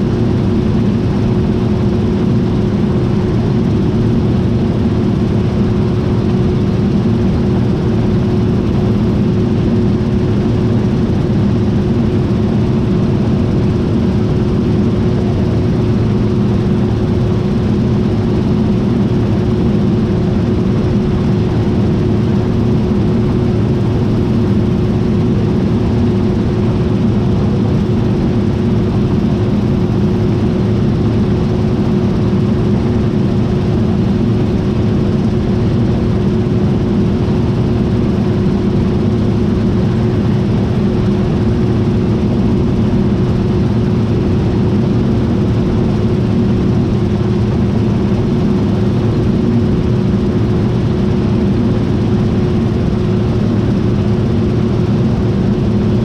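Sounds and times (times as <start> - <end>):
combine harvester drone: 0.0 - 56.0
constant machine tone: 0.0 - 56.0.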